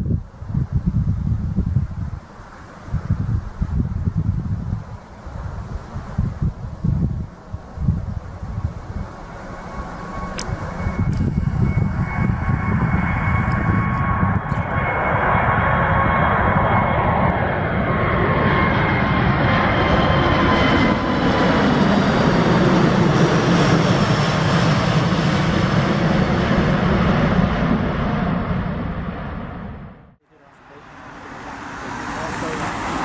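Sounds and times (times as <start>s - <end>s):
jet engines roaring with high whine: 0.0s - 33.0s.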